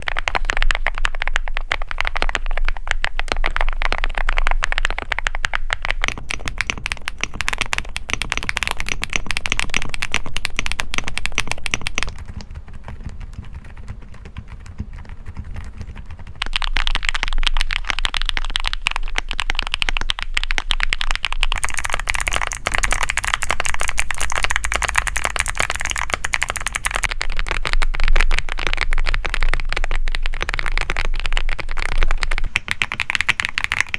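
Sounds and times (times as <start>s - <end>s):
fast mechanical keyboard typing: 0.0s - 33.9s.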